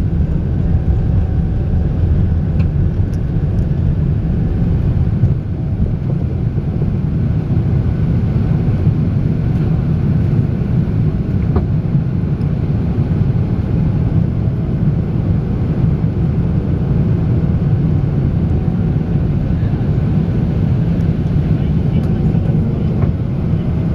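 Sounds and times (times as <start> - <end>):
jet airliner taking off: 0.0 - 23.9.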